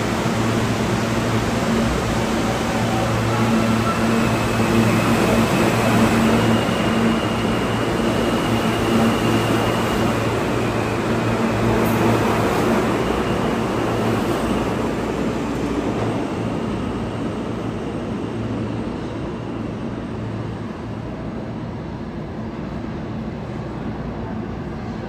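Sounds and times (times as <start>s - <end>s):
subway train moving: 0.0s - 25.0s.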